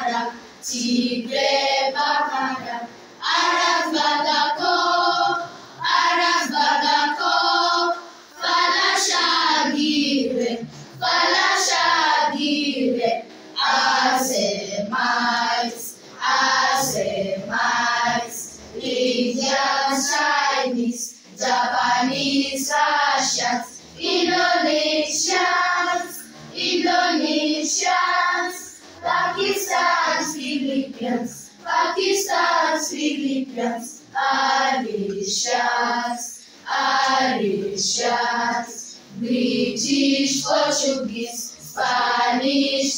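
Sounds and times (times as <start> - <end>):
voices singing: 0.0 - 42.9.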